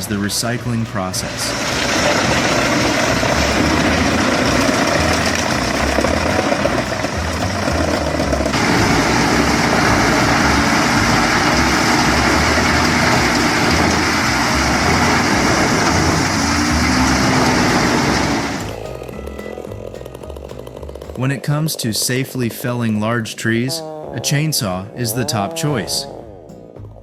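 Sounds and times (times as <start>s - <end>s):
wood grinder machine running: 0.0s - 22.5s.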